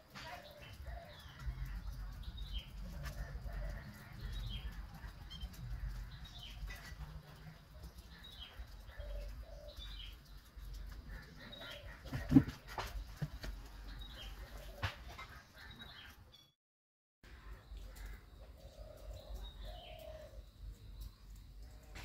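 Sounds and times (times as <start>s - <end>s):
birds chirping: 0.0s - 16.6s, 17.3s - 22.0s.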